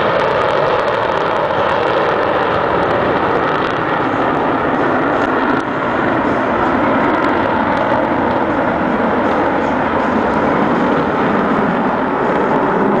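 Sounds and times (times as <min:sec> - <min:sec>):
fighter jet engines rushing: 0:00.0 - 0:13.0.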